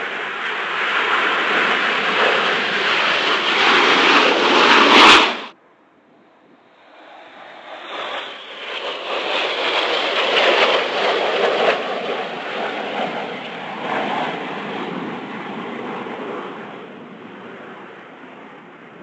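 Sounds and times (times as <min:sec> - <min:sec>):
jets flying past: 0:00.0 - 0:05.6, 0:06.2 - 0:19.0.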